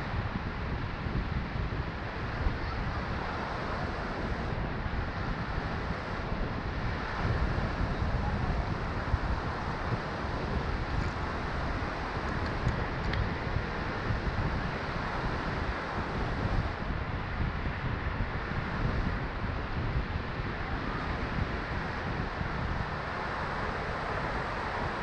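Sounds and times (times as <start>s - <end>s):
wind rumbling on microphone: 0.0s - 25.0s
surf washing up beach: 0.1s - 25.0s.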